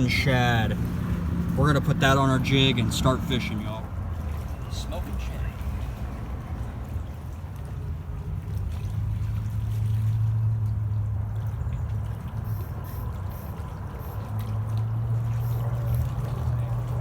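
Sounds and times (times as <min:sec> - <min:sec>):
boat motor droning: 0:00.0 - 0:17.0
water trickling: 0:00.0 - 0:17.0.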